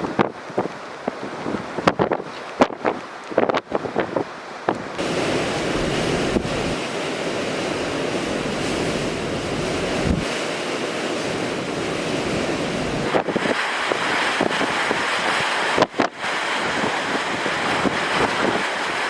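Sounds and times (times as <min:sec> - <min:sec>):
blizzard wind across microphone: 0:00.0 - 0:19.0.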